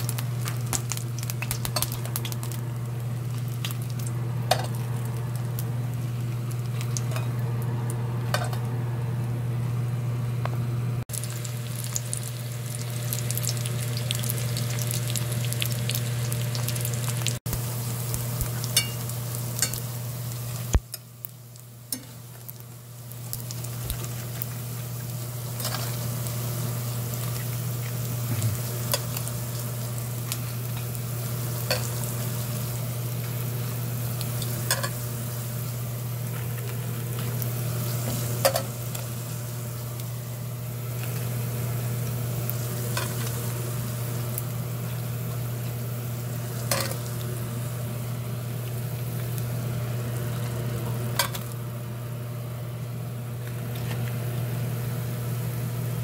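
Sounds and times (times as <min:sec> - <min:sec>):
pork frying in oil: 0:00.0 - 0:56.0
steady low hum: 0:00.0 - 0:56.0.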